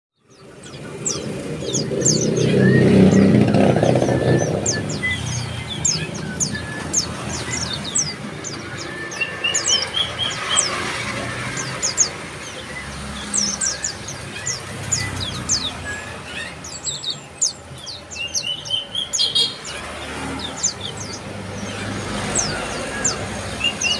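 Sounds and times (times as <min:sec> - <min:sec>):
birds chattering calls: 0:00.1 - 0:23.9.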